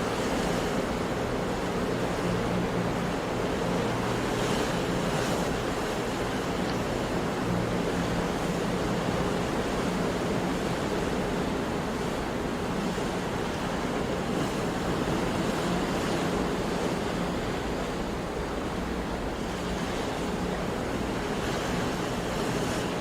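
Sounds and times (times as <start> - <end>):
sea waves washing onto shore: 0.0 - 23.0.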